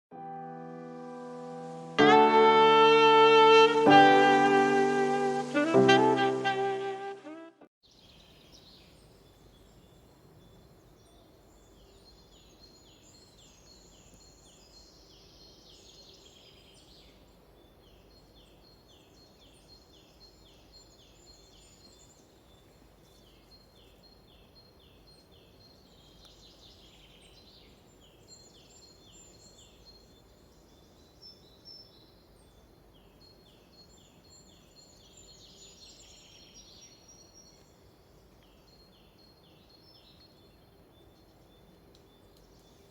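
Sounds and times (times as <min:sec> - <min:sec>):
low background hiss: 0:07.9 - 0:42.9.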